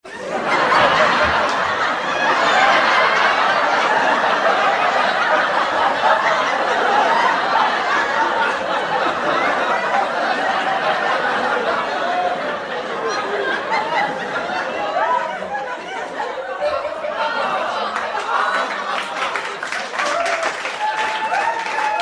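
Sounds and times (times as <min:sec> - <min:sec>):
studio audience laughing: 0:00.1 - 0:22.0.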